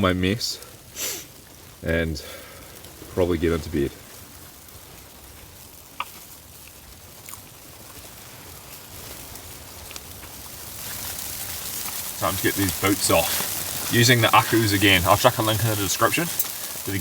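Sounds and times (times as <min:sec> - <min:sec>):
snow and wind on tent fabric: 0:00.0 - 0:17.0.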